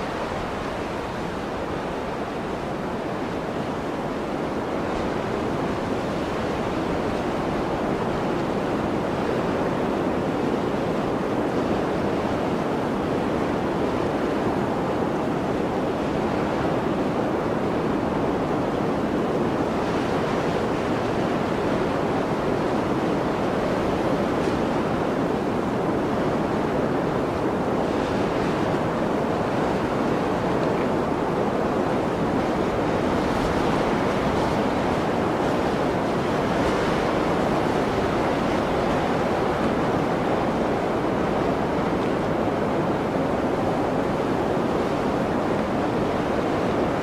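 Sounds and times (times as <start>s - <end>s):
blizzard wind rushing: 0.0s - 47.0s.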